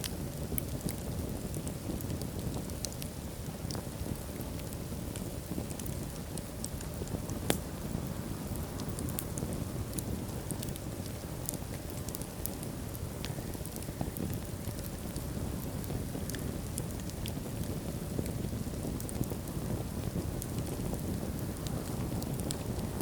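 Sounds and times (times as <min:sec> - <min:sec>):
fire crackling and popping: 0:00.0 - 0:23.0
fire rumbling: 0:00.0 - 0:23.0.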